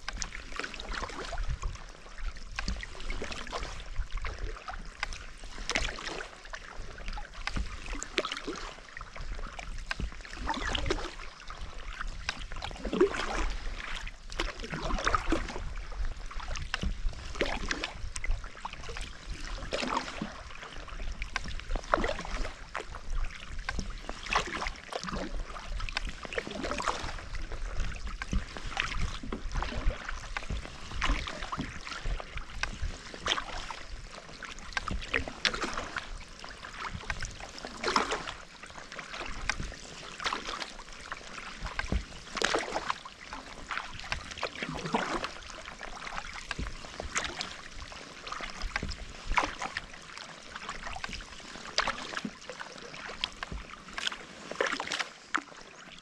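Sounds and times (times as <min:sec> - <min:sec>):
kayak paddle splashing in water: 0:00.0 - 0:56.0.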